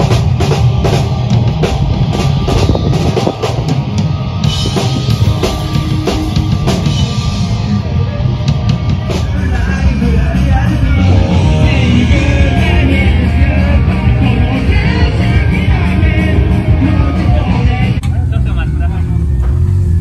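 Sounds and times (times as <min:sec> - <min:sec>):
drum kit beat: 0:00.0 - 0:19.9
instrumental rock music: 0:00.0 - 0:19.9.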